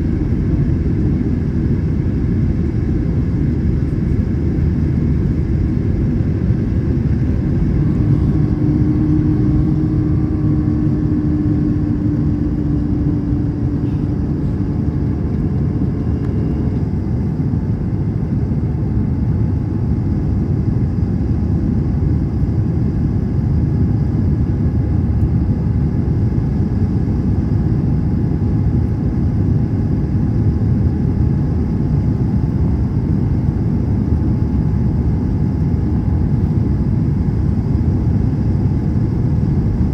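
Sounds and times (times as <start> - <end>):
airliner cabin rumble: 0.0 - 39.9
faint steady hum: 0.0 - 39.9.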